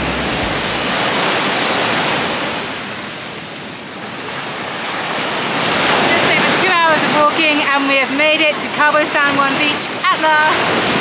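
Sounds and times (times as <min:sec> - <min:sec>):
surf breaking on sandy beach: 0:00.0 - 0:03.2, 0:04.2 - 0:11.0.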